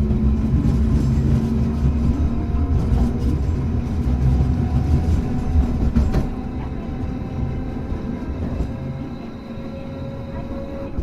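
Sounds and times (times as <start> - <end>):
tram wheels rumbling: 0.0 - 11.0.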